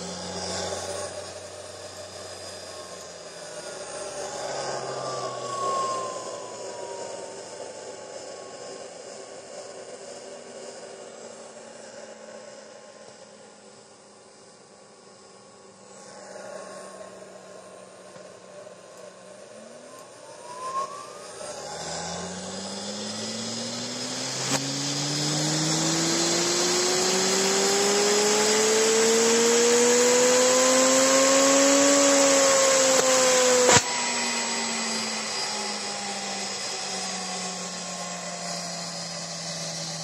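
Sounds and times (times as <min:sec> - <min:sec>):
spindle motor whine: 0:00.0 - 0:40.0.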